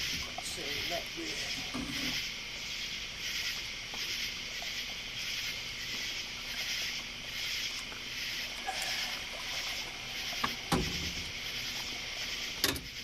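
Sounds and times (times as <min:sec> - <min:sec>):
night insects buzzing: 0:00.0 - 0:13.0.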